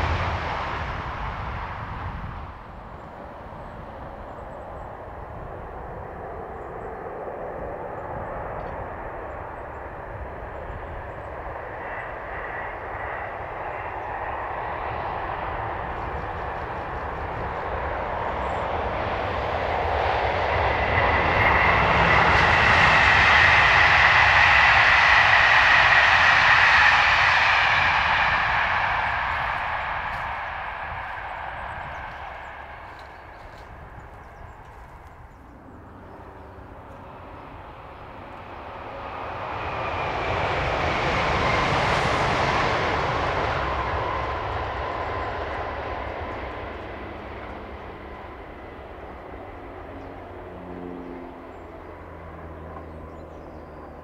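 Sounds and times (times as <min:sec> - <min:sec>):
high whine: 0:00.0 - 0:54.0
passenger train passing: 0:00.0 - 0:54.0.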